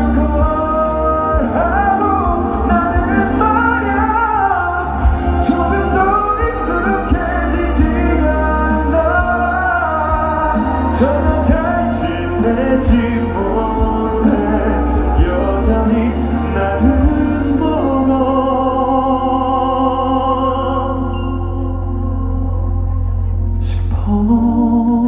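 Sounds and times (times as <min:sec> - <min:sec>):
bass: 0:00.0 - 0:25.0
live band playing a ballad: 0:00.0 - 0:25.0
man singing long notes: 0:00.0 - 0:25.0.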